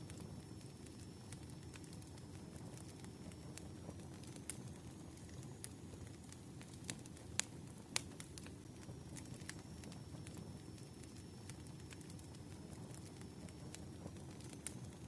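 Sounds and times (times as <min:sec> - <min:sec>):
firewood burning with crackles: 0:00.0 - 0:15.0
sharp pops of fire: 0:00.0 - 0:15.0.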